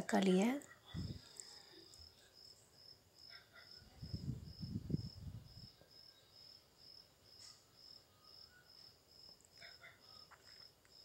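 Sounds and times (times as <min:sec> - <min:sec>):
cricket chirping: 0:00.6 - 0:11.0.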